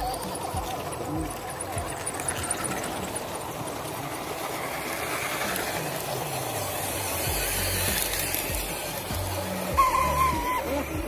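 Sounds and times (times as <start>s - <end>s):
small electric motors whirring: 0.0s - 11.0s.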